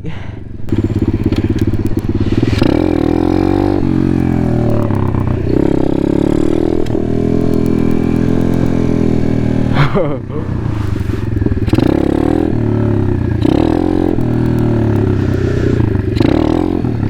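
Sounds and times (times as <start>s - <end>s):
small motorcycle engine revving: 0.7s - 17.0s.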